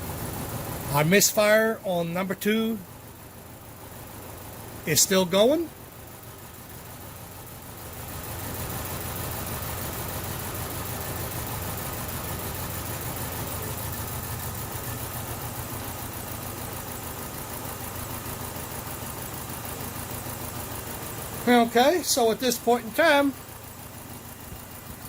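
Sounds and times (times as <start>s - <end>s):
car engine idling roughly: 0.0s - 25.0s.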